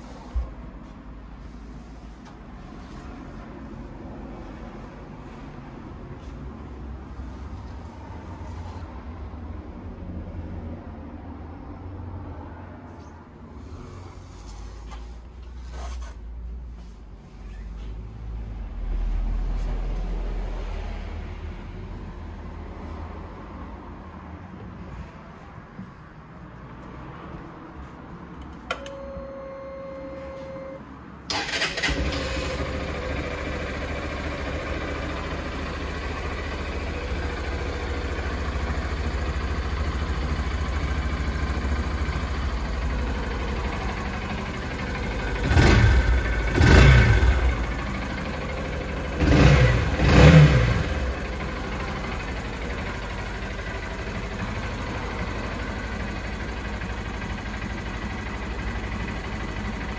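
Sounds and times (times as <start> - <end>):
motorcycle engine idling and revving: 2.8 - 28.0, 30.5 - 59.9.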